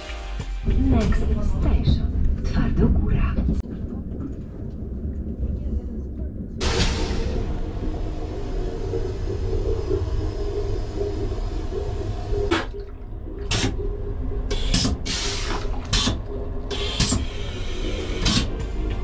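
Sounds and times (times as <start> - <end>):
train low rumble: 0.6 - 19.0.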